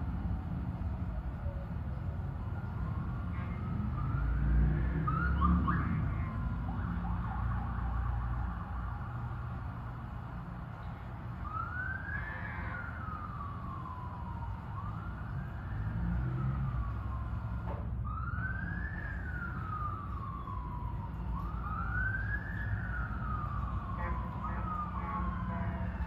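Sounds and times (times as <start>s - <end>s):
low traffic rumble: 0.0s - 26.0s
police siren wailing: 0.0s - 26.0s.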